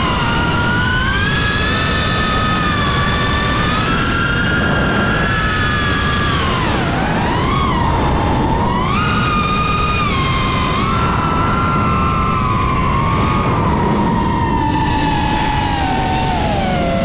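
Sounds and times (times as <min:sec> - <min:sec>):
model jet engine whining: 0:00.0 - 0:17.0
wind rushing: 0:01.4 - 0:17.0.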